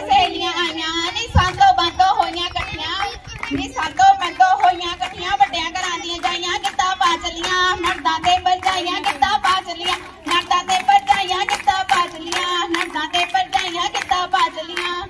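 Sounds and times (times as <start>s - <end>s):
girls singing: 0.0s - 15.0s
hand-clapping: 0.0s - 15.0s.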